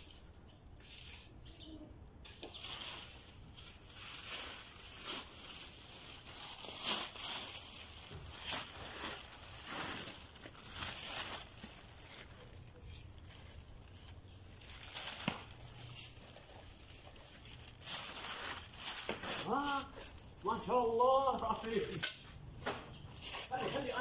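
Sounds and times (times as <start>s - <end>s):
plastic bin bag rustling: 2.3s - 22.0s.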